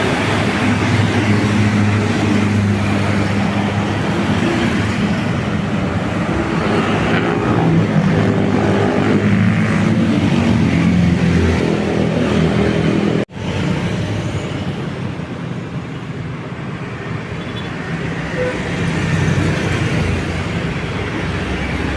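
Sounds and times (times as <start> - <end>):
road traffic noise: 0.0 - 21.9.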